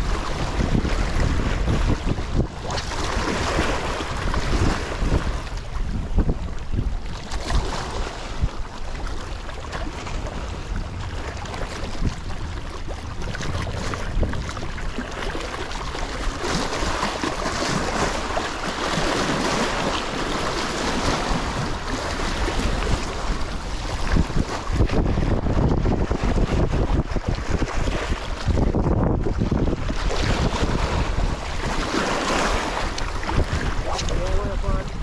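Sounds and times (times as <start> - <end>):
waves lapping against rocks: 0.0 - 35.0
wind buffeting microphone: 0.0 - 35.0.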